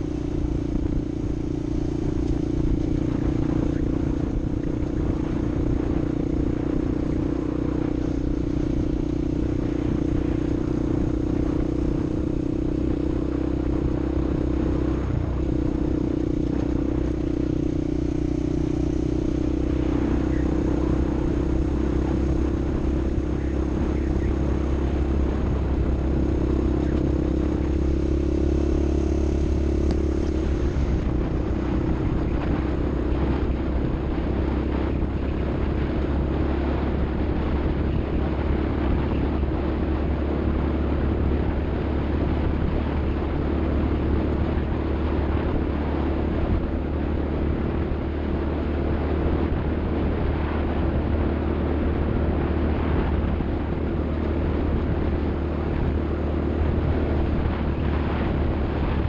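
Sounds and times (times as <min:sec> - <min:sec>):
vehicle engine at high revs: 0:00.0 - 0:59.0.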